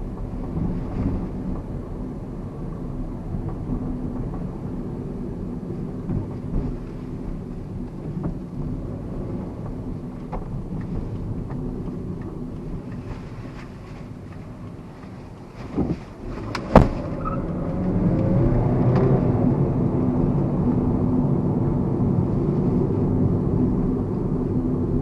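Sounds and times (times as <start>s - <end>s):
car cabin rumble of tyres and engine: 0.0s - 25.0s.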